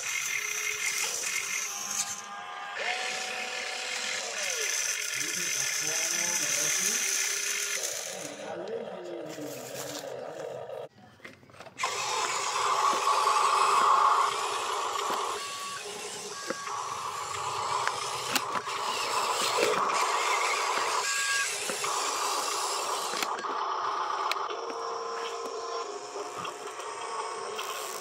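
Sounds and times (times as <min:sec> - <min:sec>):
electric motor and gearbox whining: 0:00.0 - 0:10.9, 0:11.7 - 0:28.0.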